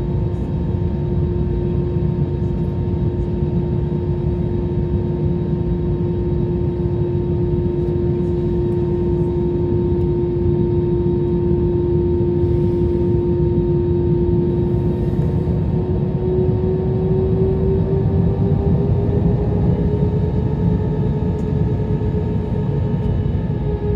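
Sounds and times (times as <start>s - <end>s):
jet engines humming: 3.3s - 23.9s.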